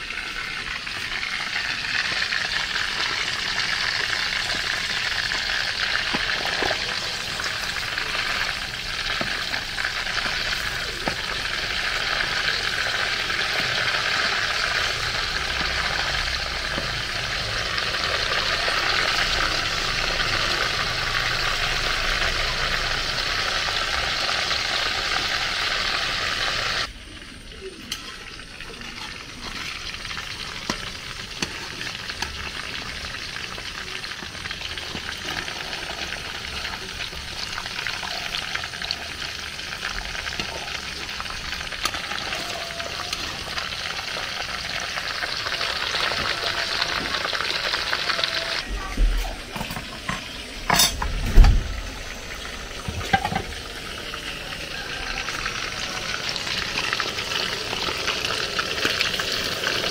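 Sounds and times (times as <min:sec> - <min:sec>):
fish frying in hot oil: 0:00.0 - 0:59.9.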